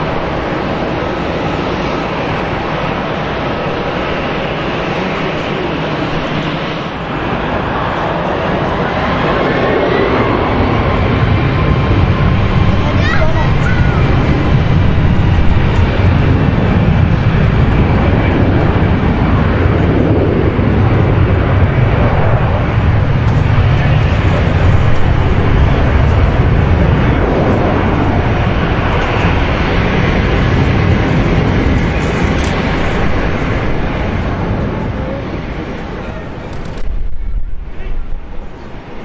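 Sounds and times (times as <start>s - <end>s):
jet engines at takeoff: 0.0s - 39.0s.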